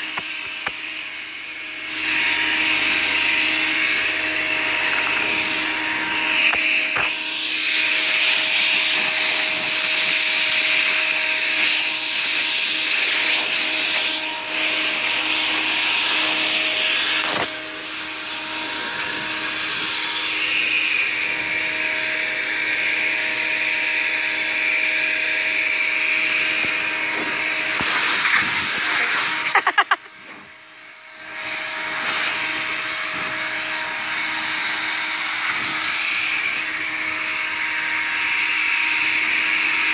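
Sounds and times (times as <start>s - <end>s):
leaf blower running: 0.0s - 39.9s.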